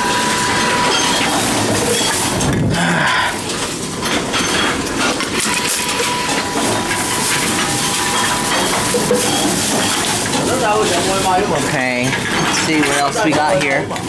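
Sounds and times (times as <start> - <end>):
vending machine crushing plastic bottle: 0.0 - 14.0.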